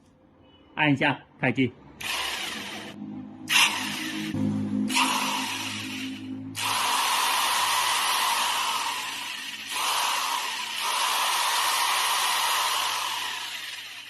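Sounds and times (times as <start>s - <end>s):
electric drill motor whining: 2.0s - 14.0s.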